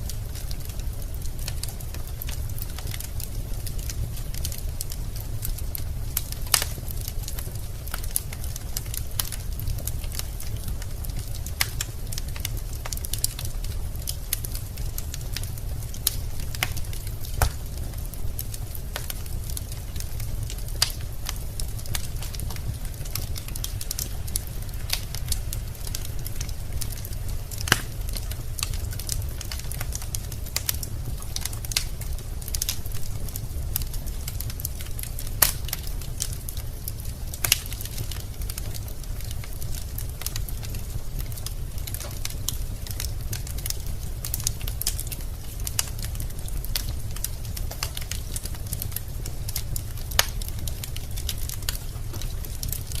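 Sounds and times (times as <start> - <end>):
fire crackling and popping: 0.0 - 53.0
fire flames rumbling: 0.0 - 53.0.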